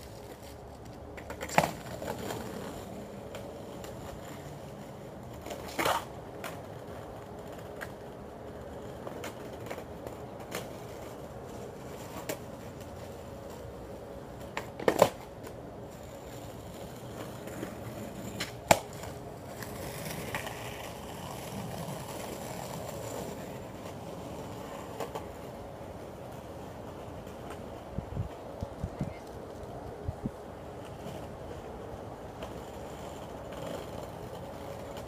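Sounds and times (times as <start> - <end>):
skateboard clacks: 0.0 - 35.0
skateboard wheels rolling on concrete: 0.0 - 35.0.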